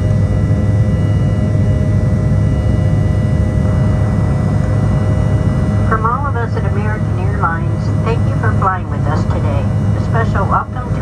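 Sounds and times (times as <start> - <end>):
jet engine cabin drone: 0.0 - 11.0.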